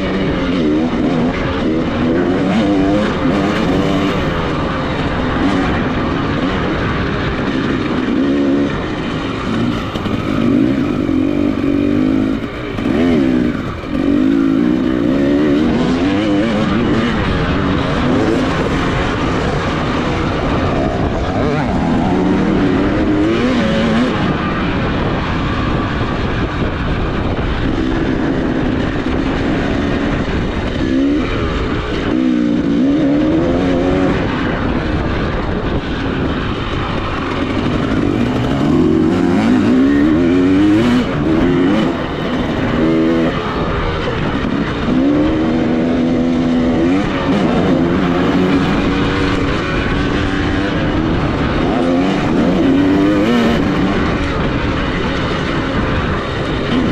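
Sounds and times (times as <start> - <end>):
dirt bike engine revving: 0.0 - 56.9
wind and track noise: 0.0 - 56.9.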